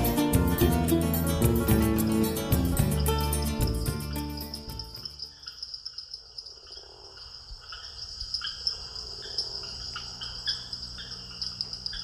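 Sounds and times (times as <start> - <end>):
crickets trilling: 0.0 - 12.0
short chirping calls: 1.1 - 12.0.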